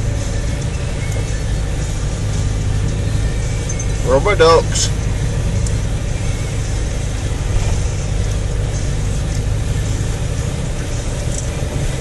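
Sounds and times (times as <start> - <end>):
car engine droning: 0.0 - 12.0
water washing against car: 0.0 - 12.0.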